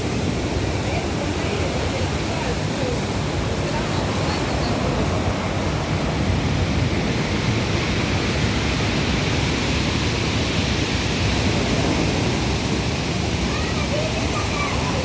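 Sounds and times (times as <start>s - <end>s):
sea surf rushing: 0.0s - 15.0s.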